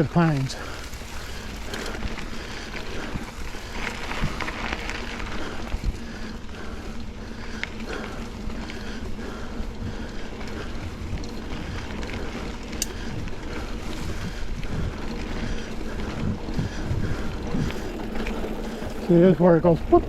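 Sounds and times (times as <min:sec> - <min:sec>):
bike tyre rumble on dirt: 0:00.0 - 0:20.0
wind buffeting microphone: 0:00.0 - 0:20.0.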